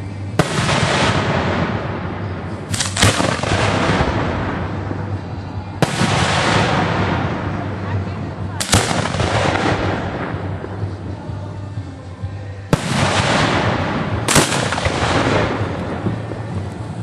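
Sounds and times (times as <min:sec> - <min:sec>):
fireworks crackling and hissing: 0:00.0 - 0:11.6, 0:12.7 - 0:17.0
firework launch bangs: 0:00.4 - 0:08.0, 0:08.6 - 0:10.9, 0:12.7 - 0:16.8.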